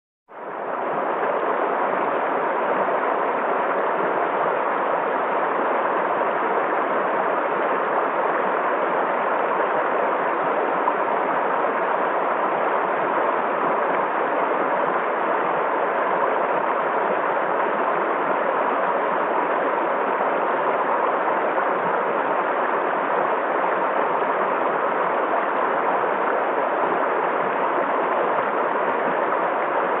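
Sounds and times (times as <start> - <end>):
stream rushing over rocks: 0.4 - 30.0.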